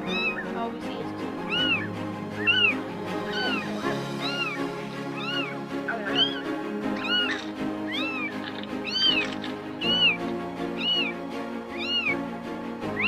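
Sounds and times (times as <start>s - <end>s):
kitten mewing: 0.0s - 0.6s, 1.4s - 12.2s.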